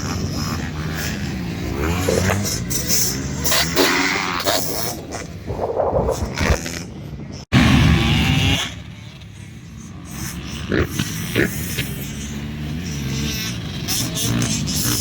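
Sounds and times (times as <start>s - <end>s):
motocross bike engines: 0.0s - 15.0s.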